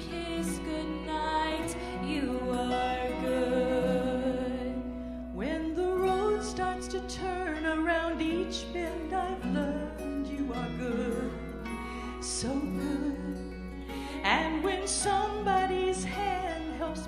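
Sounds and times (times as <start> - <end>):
woman singing a slow worship song: 0.0 - 17.0.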